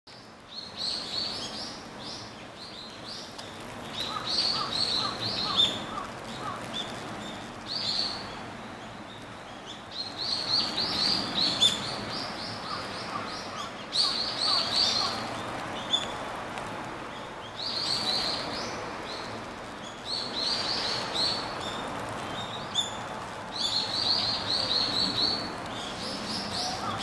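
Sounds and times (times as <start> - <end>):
small birds chirping: 0.1 - 16.2, 17.1 - 27.0.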